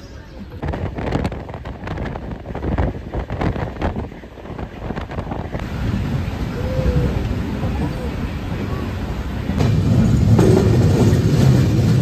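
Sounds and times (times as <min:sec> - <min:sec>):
train running noise: 0:00.0 - 0:12.0
wind buffeting microphone: 0:00.0 - 0:12.0.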